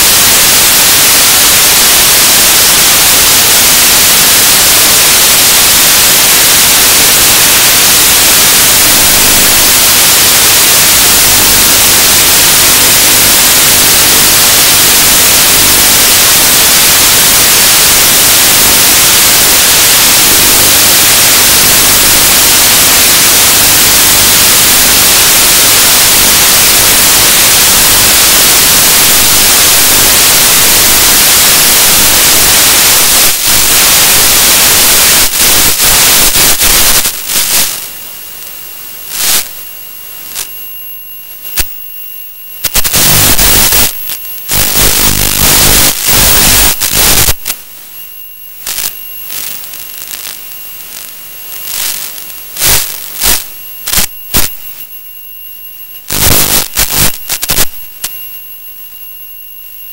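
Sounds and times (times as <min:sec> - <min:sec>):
bursts of static: 0:00.0 - 0:59.9
radio static hiss: 0:00.0 - 0:59.9.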